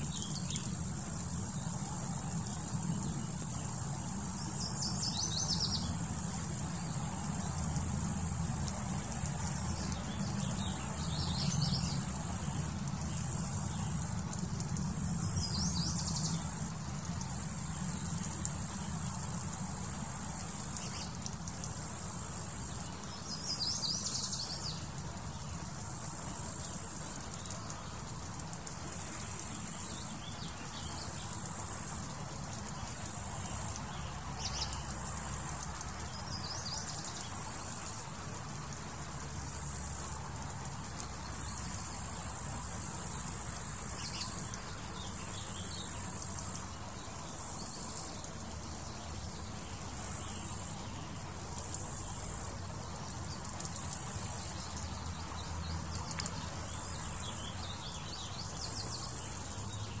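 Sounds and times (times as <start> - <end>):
cicadas buzzing: 0.0 - 60.0.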